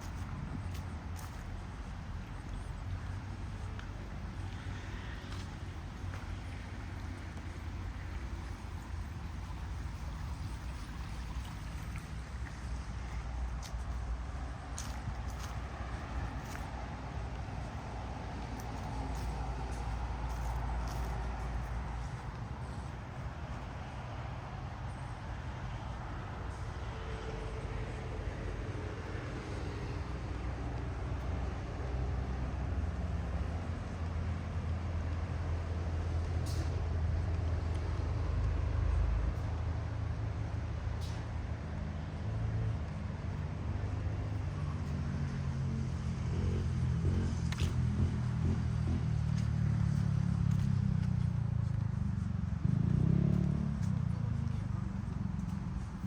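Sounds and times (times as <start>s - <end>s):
heavy vehicle engine: 0.0s - 56.0s
road traffic rumble: 0.0s - 56.0s.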